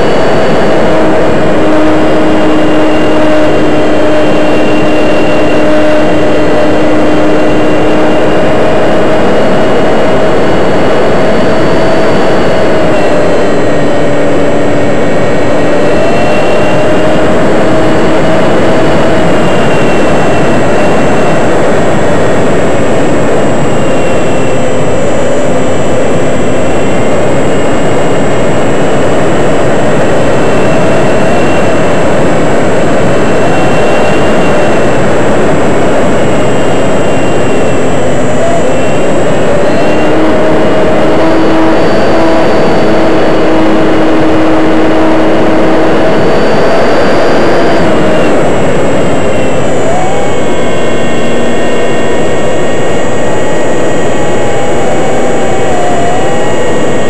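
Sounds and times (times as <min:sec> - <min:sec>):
electric motor and propeller whine: 0:00.0 - 0:57.0
rushing air noise: 0:00.0 - 0:57.0.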